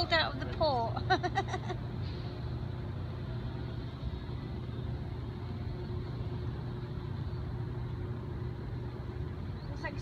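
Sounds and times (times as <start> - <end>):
diesel boat engine humming: 0.0 - 10.0.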